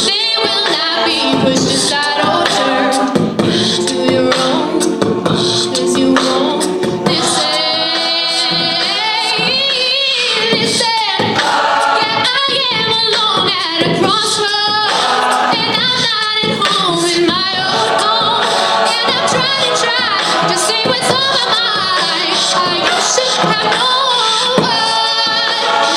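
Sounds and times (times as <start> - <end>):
a cappella group singing: 0.0 - 25.9.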